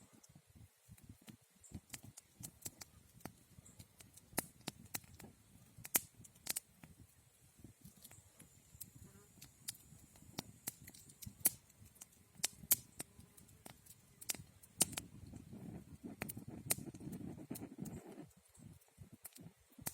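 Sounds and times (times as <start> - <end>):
campfire wood crackling: 0.0 - 19.9.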